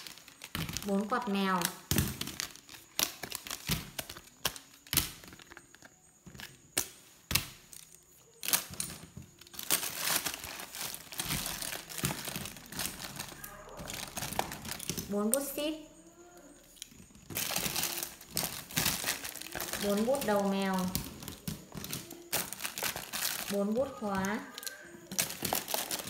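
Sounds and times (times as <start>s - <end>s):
plastic bag crinkling: 0.0s - 6.7s, 7.6s - 15.4s, 16.7s - 26.0s
plastic items clicking and tapping: 0.0s - 15.6s, 16.4s - 26.0s.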